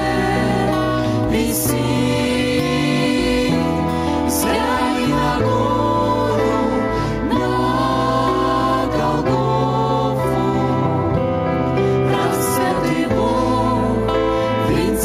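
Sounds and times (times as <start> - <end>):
instrumental backing with bass: 0.0 - 15.0
vocal group singing: 0.0 - 15.0.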